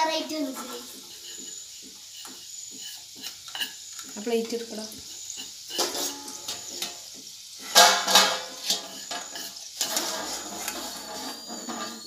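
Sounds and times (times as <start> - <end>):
hot oil sizzling: 0.0 - 12.0
steel spoon clanking against pan: 1.0 - 11.0.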